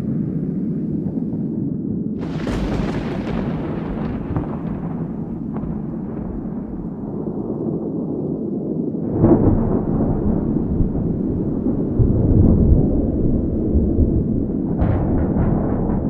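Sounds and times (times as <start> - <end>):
thunder crack and rumble: 0.0 - 16.0
wind: 0.0 - 16.0.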